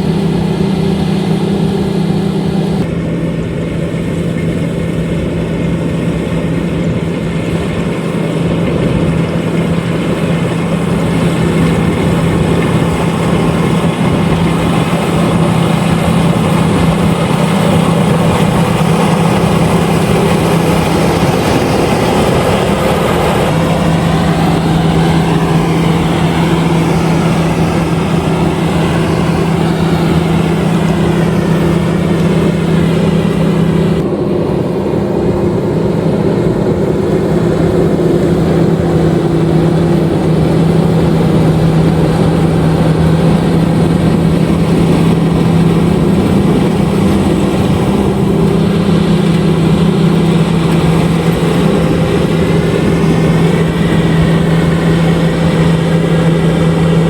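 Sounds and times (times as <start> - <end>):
combine harvester droning: 0.0 - 57.0.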